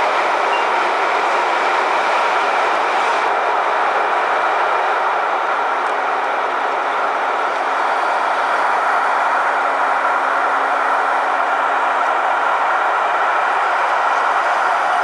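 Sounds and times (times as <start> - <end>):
airliner cabin airflow and engine noise: 0.0 - 15.0.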